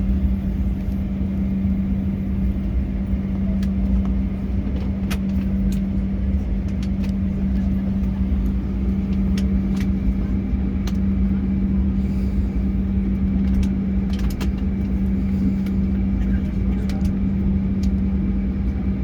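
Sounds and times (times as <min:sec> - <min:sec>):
jet engine and cabin air hum: 0:00.0 - 0:19.0.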